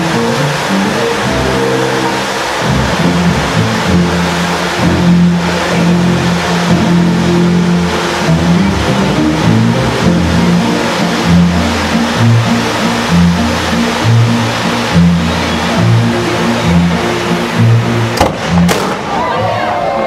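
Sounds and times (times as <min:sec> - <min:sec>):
music with low sustained notes: 0:00.0 - 0:18.7
fireworks hissing: 0:00.0 - 0:19.2.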